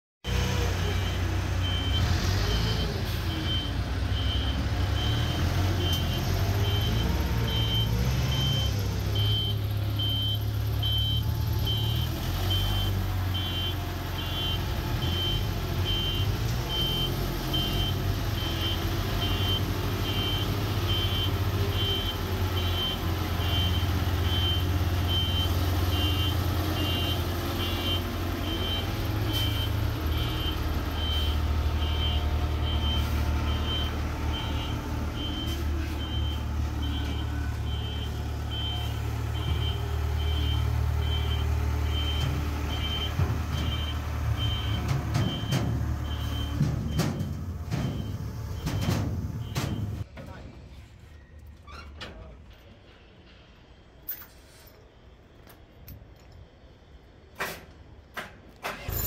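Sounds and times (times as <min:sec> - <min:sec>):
forklift engine rumbling: 0:00.2 - 0:59.0
reversing alarm beeping: 0:00.4 - 0:50.0.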